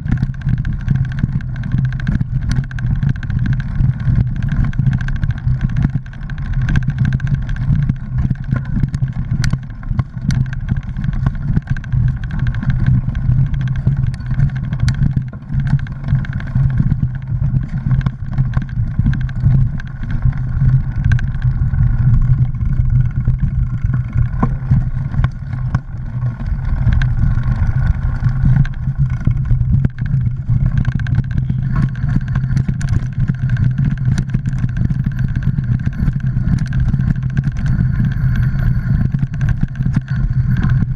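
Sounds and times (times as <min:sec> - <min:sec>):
bike rattles and clicks: 0:00.0 - 0:40.9
bike rumbling over dirt trail: 0:00.0 - 0:40.9.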